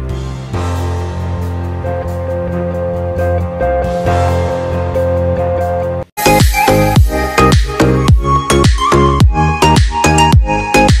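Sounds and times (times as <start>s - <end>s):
upbeat electronic music: 1.3s - 11.0s.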